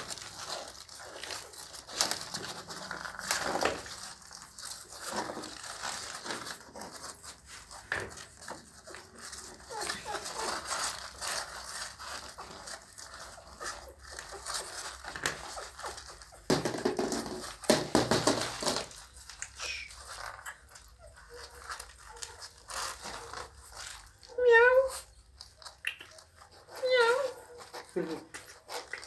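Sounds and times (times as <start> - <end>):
puppies squeaking and whimpering: 0.0 - 16.6, 18.8 - 29.0
soft clicks and rustles: 0.0 - 29.0.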